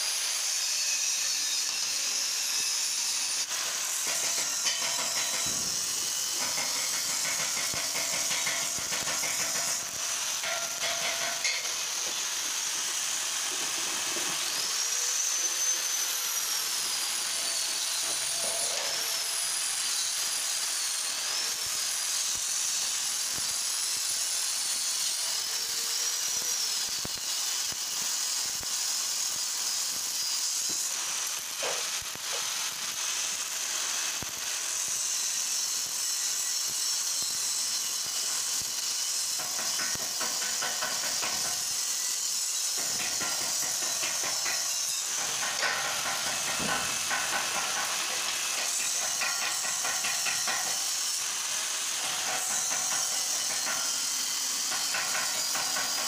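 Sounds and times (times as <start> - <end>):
welding arc sizzling and crackling: 0.0 - 56.0.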